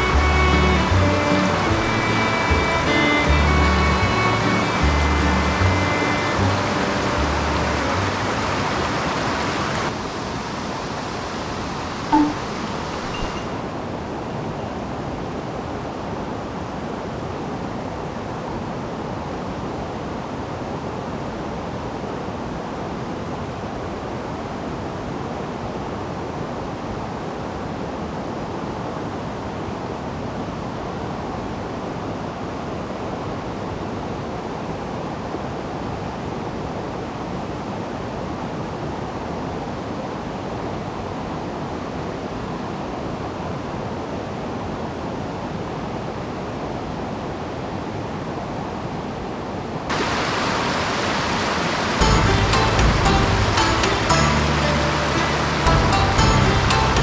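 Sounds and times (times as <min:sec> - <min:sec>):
stream water rushing: 0:00.0 - 0:46.6, 0:49.9 - 0:57.0.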